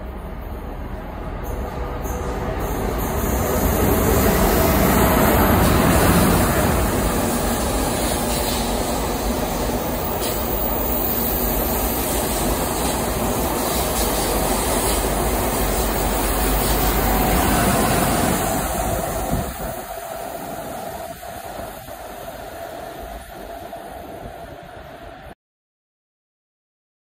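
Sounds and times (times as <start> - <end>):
high-speed train passing: 0.0 - 25.4.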